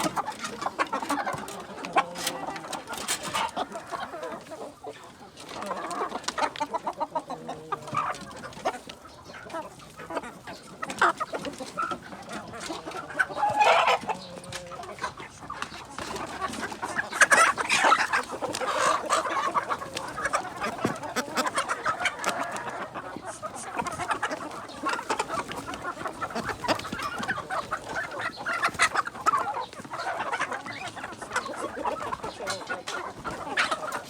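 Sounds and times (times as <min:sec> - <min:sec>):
chickens clucking and calling: 0:00.0 - 0:34.0.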